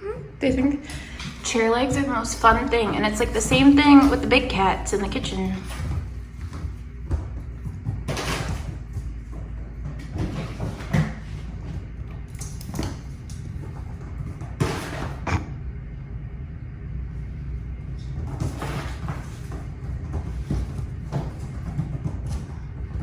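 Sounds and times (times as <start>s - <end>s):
bumps scrapes and knocks: 0.9s - 15.5s, 18.0s - 23.0s.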